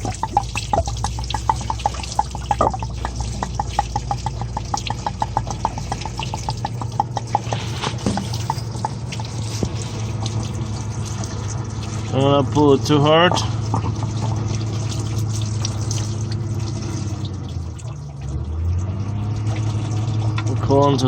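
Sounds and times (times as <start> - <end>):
steady low hum: 0.0 - 18.3
coolant dripping into a bucket: 0.0 - 21.0.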